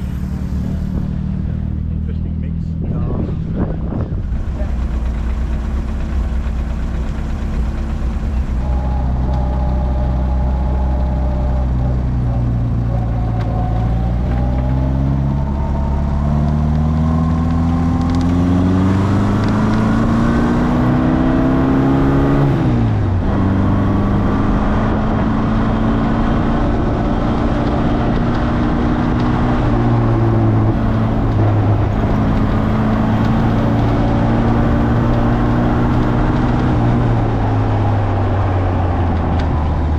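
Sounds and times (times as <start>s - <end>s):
sports car engine accelerating: 0.0s - 39.9s.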